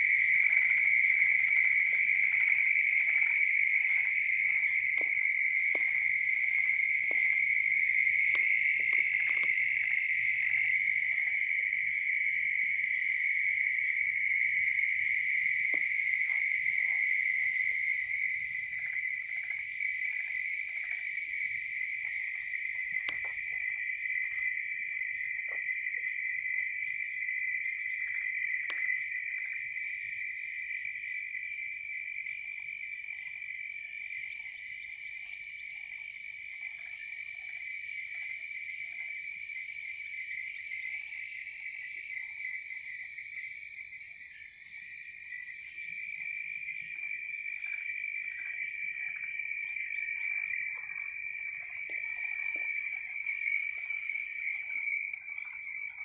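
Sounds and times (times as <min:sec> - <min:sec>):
crickets trilling: 0:00.0 - 0:56.0
frogs calling: 0:00.0 - 0:56.0.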